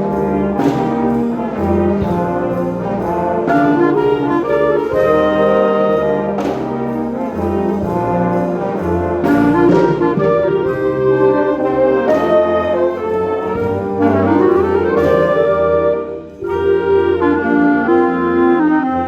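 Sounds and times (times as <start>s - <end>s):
percussion strikes: 0.0s - 17.7s
wind band playing: 0.0s - 19.0s.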